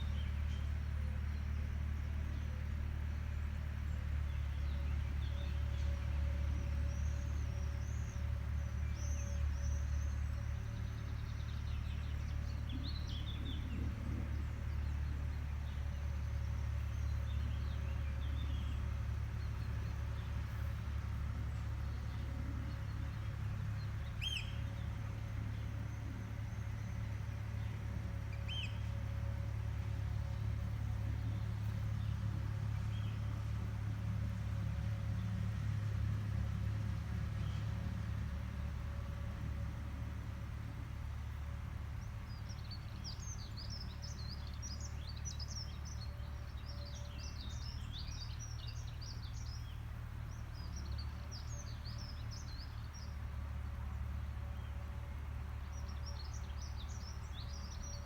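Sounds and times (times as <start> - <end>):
distant farm machine engine drone: 0.0 - 58.0
faint hum: 0.0 - 58.0.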